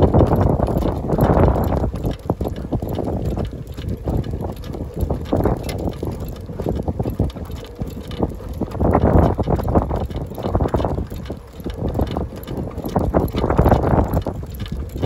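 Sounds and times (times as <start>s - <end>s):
cart wheels rolling on asphalt: 0.0s - 15.0s
wind buffeting microphone: 0.0s - 15.0s.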